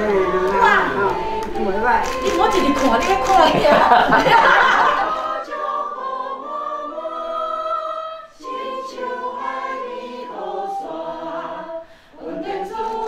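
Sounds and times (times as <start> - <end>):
group singing a hymn: 0.0 - 13.0
recorder playing: 0.0 - 13.0.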